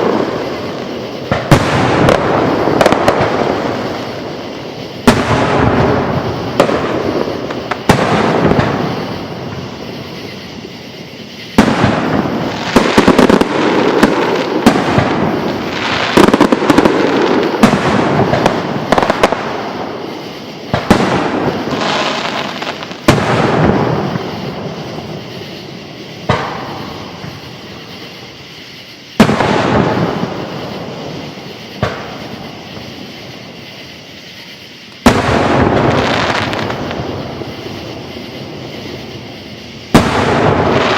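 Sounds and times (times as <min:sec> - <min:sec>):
fireworks bangs with echo: 0:00.0 - 0:40.9
rapid firework bursts and crackles: 0:00.0 - 0:40.9.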